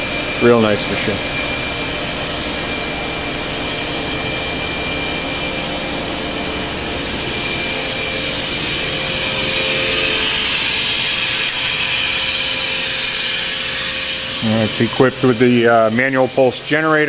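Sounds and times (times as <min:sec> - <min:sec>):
machining center whirring and hissing: 0:00.0 - 0:17.0.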